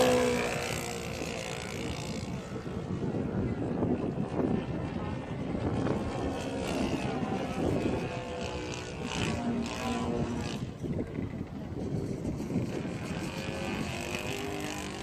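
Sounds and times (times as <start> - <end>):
model plane engine and propeller: 0.0 - 15.0
wind buffeting on microphone: 0.0 - 15.0.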